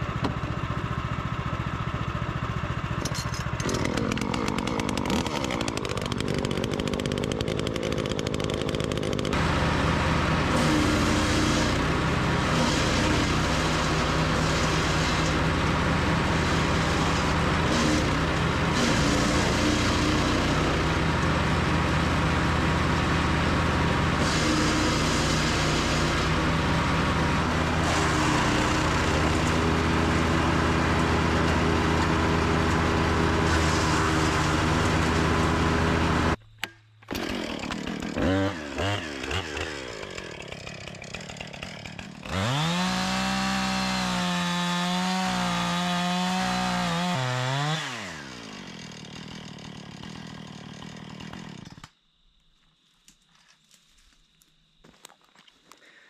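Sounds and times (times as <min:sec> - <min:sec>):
small gas engine running: 0:00.0 - 0:36.4, 0:37.1 - 0:51.9
chainsaw revving: 0:02.8 - 0:36.4, 0:37.1 - 0:51.9.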